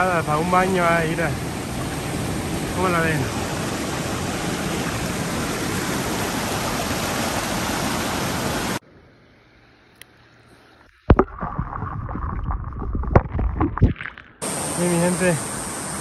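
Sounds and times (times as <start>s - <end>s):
water rushing over boulders: 0.0s - 8.8s, 11.1s - 16.0s.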